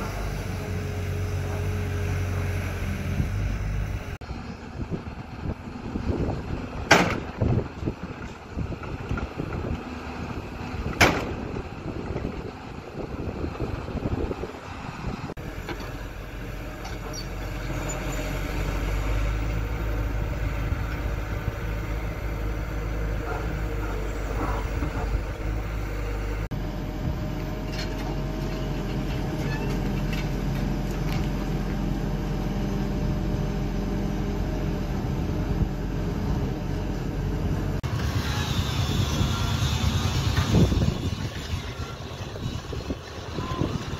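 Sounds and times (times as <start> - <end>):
excavator diesel engines running: 0.0 - 43.9.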